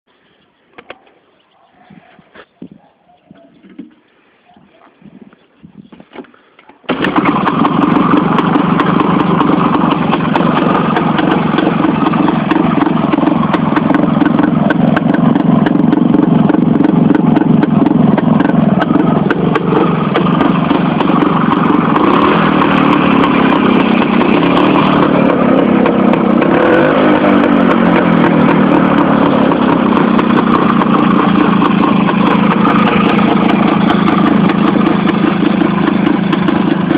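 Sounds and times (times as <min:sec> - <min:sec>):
two-stroke motorcycle engine running: 0:06.9 - 0:36.9.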